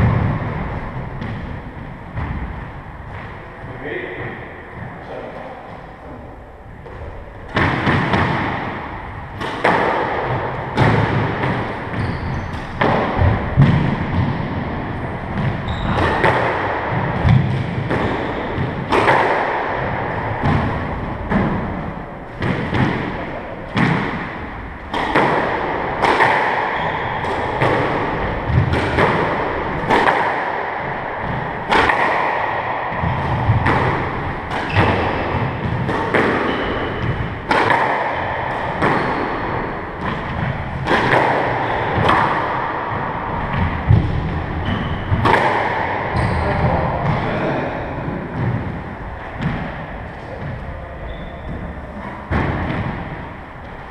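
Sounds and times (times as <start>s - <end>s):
squash ball hits with echo: 0.0s - 53.9s.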